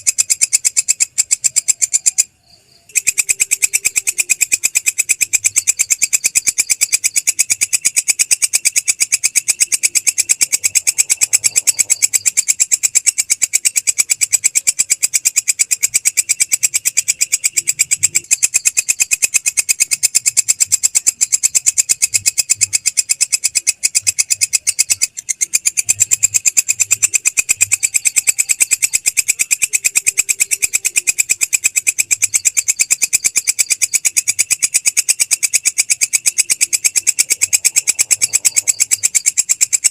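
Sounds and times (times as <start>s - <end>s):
grasshopper rasping call: 0.0s - 39.9s.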